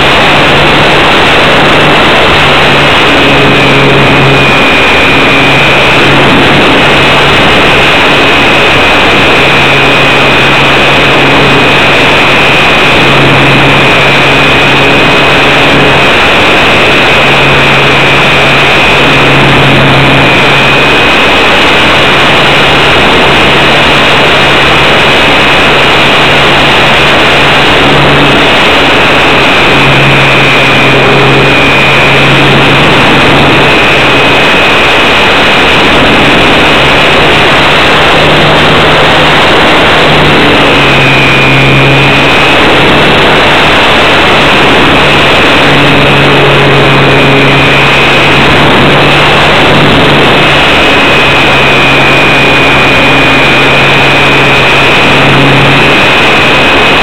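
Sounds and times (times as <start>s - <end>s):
model plane motor whine: 0.0s - 57.0s
rushing air: 0.0s - 57.0s.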